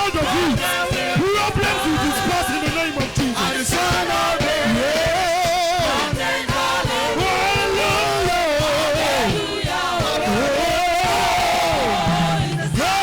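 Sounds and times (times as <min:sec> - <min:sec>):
band accompaniment with percussion: 0:00.0 - 0:13.0
gospel choir singing: 0:00.0 - 0:13.0.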